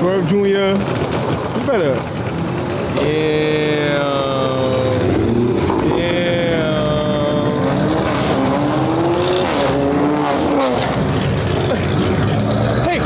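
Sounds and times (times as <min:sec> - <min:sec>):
car engine revving: 0:00.8 - 0:13.0.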